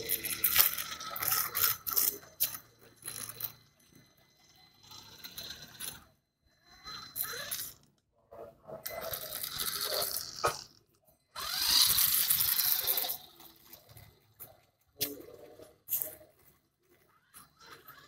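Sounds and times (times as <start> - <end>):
toy car motor whirring: 0.0 - 18.0
tyres on stone paving: 0.0 - 18.0.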